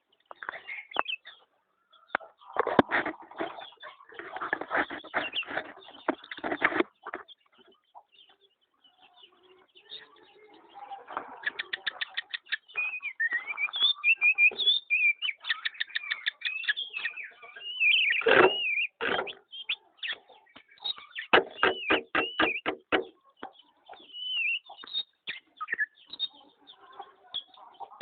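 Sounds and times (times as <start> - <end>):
birds ticking and chirping: 0.0 - 28.0.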